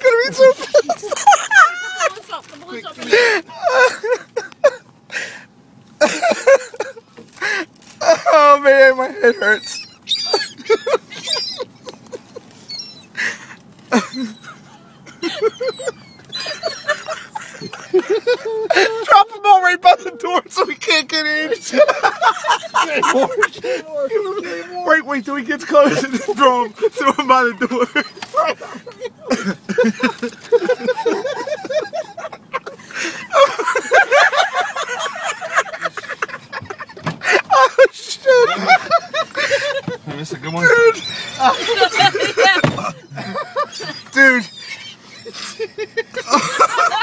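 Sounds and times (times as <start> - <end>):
people laughing: 0.0 - 5.3, 6.0 - 47.0
seagulls calling: 8.1 - 47.0.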